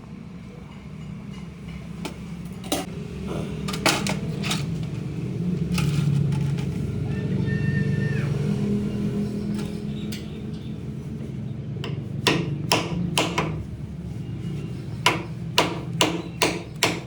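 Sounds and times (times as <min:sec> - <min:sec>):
low engine hum: 0:00.0 - 0:15.5.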